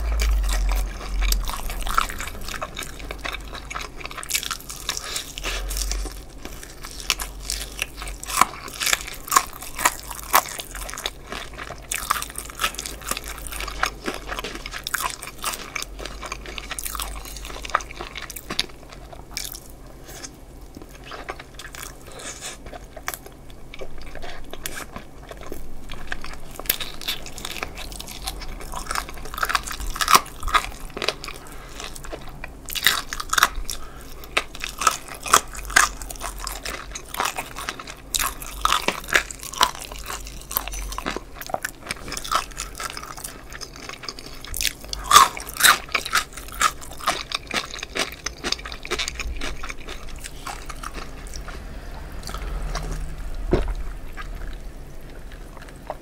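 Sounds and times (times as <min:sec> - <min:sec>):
crunchy chewing of fried chicken: 0:00.0 - 0:56.0.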